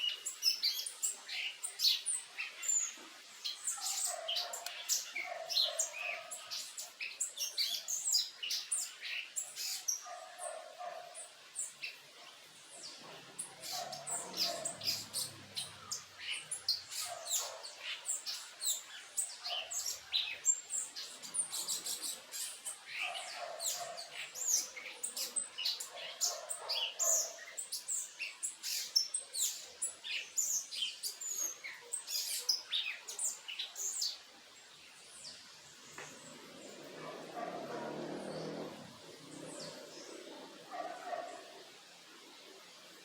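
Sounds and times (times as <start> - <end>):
birds chirping: 0.0 - 41.7.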